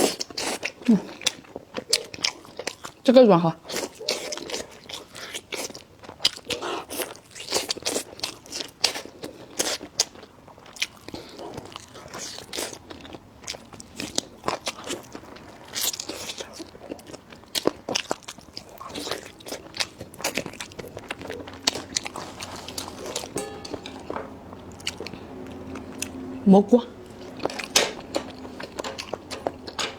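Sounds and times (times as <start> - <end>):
chewing and crunching food: 0.0 - 29.9.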